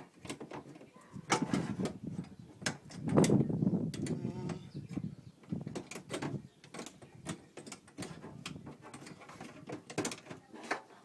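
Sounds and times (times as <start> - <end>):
metal clicks and knocks: 0.0 - 4.2, 5.4 - 10.9.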